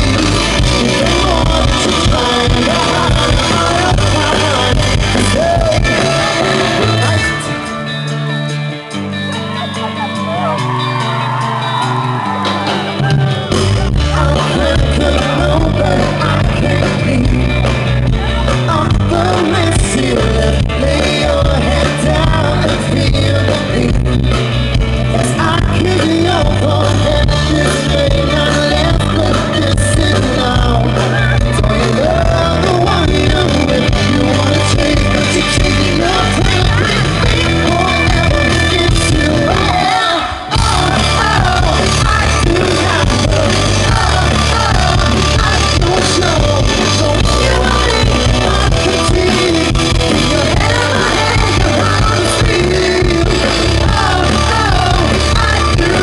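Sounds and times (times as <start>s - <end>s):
man singing: 0.0s - 8.3s, 12.6s - 56.0s
electric guitar: 0.0s - 56.0s
pop-rock band playing: 0.0s - 56.0s.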